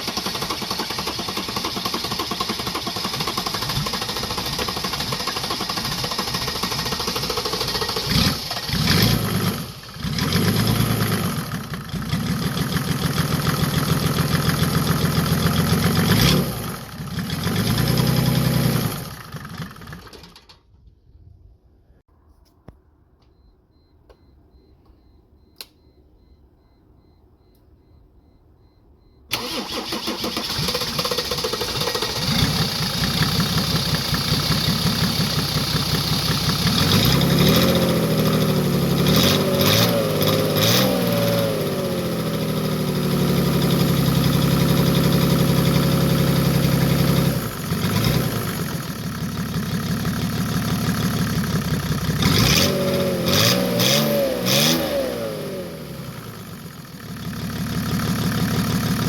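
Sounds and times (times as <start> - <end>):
diesel engine revving and idling: 0.0 - 19.9, 29.3 - 59.0.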